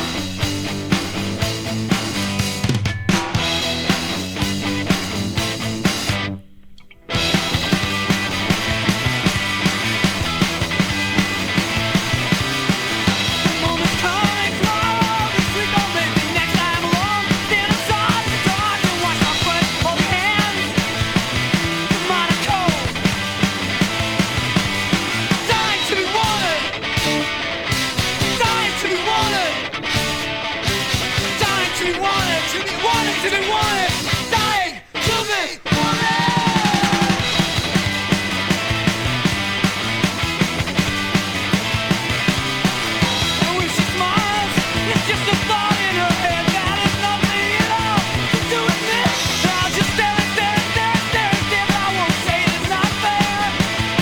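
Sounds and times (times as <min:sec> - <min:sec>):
loud rock song: 0:00.0 - 0:54.0
sung and yelled vocals: 0:07.6 - 0:38.1, 0:41.0 - 0:54.0.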